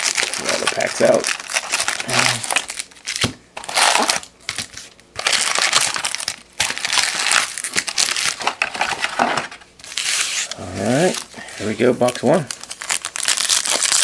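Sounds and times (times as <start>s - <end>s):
foil wrappers crinkling: 0.0s - 14.0s.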